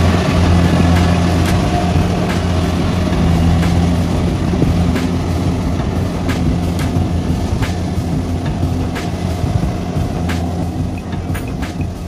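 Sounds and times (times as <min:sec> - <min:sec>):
combine harvester engine hum: 0:00.0 - 0:12.0.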